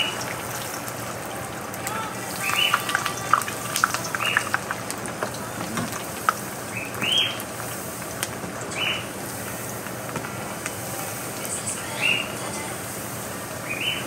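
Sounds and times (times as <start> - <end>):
plantain slices sizzling in oil: 0.0 - 14.0.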